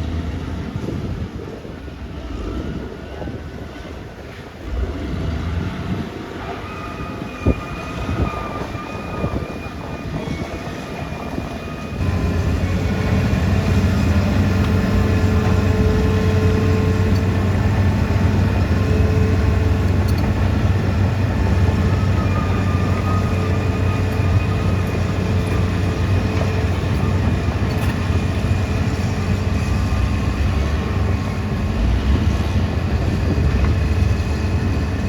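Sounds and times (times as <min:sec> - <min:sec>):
bulldozer diesel engine: 0:00.0 - 0:35.0
steel tracks clanking: 0:00.6 - 0:35.0.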